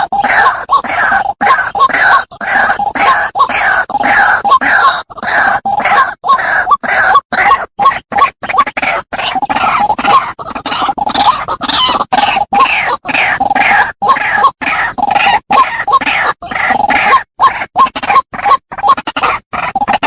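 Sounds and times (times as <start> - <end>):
waterhen harsh croaking calls: 0.0 - 20.0.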